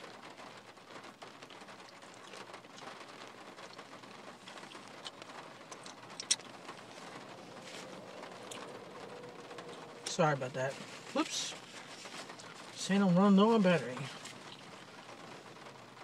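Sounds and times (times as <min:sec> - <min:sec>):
chewing fried chicken: 0:01.4 - 0:12.8, 0:13.9 - 0:15.6.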